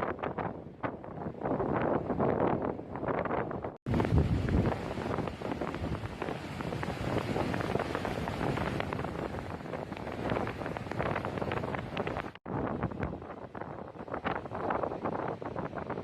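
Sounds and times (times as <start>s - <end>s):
storm wind on microphone: 0.0s - 16.0s.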